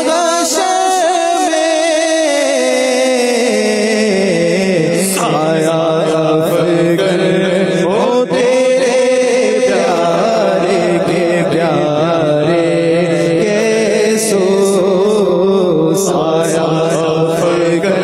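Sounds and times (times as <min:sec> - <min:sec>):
person chanting slow melody: 0:00.0 - 0:18.0.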